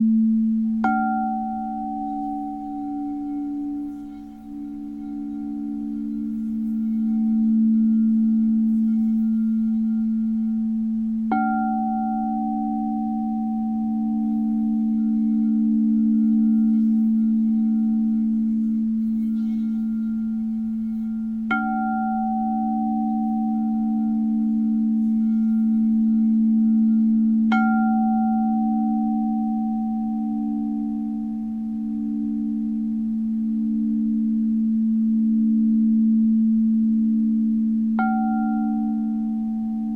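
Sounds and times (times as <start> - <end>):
singing bowl humming: 0.0 - 39.9
singing bowl strike ringing: 0.8 - 10.7, 11.3 - 34.4, 38.0 - 39.9.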